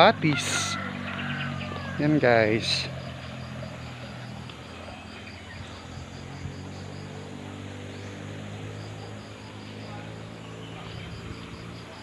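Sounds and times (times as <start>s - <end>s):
insect chirping: 0.0s - 12.0s
small stream running: 0.0s - 12.0s.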